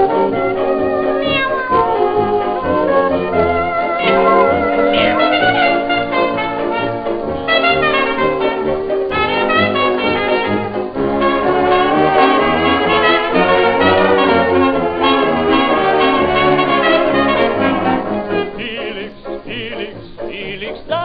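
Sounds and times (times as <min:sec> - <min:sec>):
jazz dance band with brass: 0:00.0 - 0:21.0.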